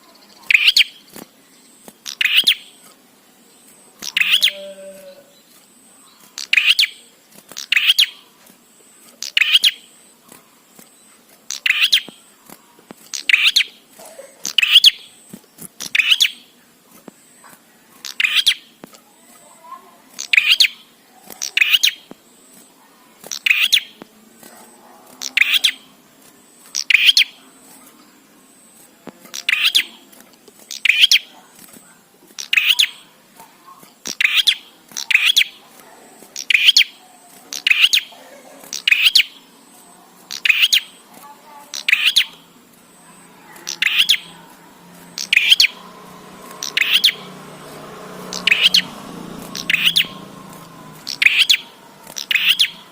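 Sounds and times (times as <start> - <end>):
bird chirping phrases: 0.0 - 52.9.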